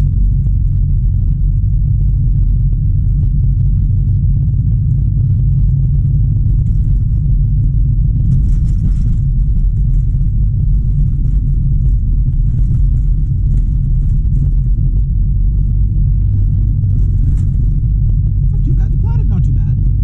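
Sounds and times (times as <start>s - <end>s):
car cabin road rumble: 0.0s - 20.0s.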